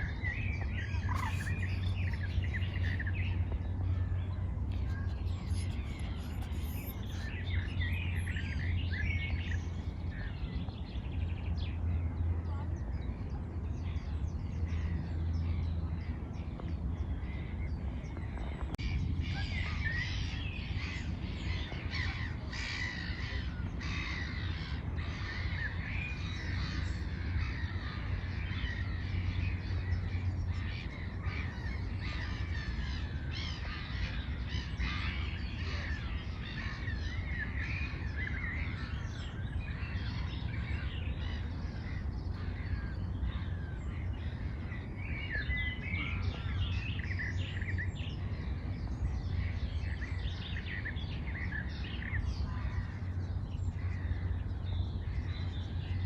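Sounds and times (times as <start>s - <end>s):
birds calling and chirping: 0.0s - 56.0s.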